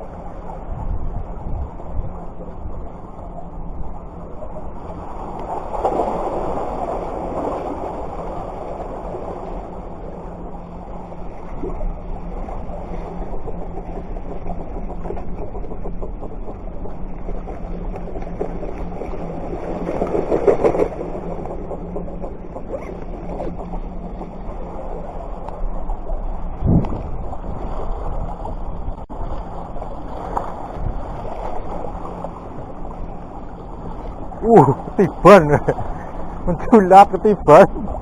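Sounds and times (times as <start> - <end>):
surf: 0.0 - 38.0
wind: 0.0 - 38.0.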